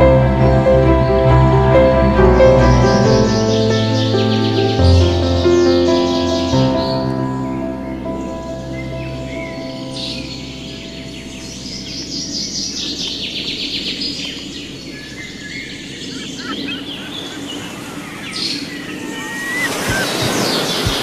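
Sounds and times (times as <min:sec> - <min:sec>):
birds singing and calling: 0:02.3 - 0:21.0.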